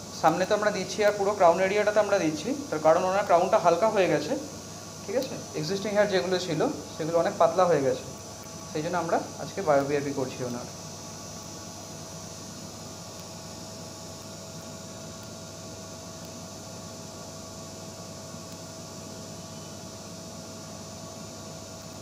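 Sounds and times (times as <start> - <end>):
electrical hum: 0.0 - 22.0
even hiss: 0.0 - 22.0.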